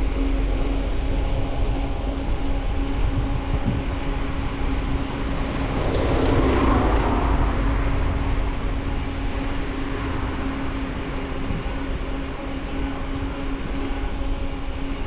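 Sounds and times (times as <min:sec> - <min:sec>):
steady hum: 0:00.0 - 0:15.0
wind rumbling on microphone: 0:00.0 - 0:15.0.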